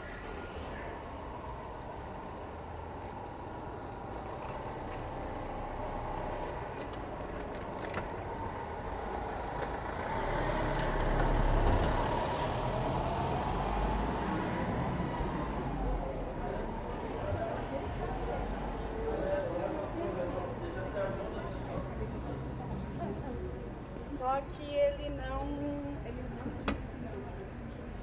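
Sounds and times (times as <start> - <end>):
steady town hum: 0.0 - 28.0.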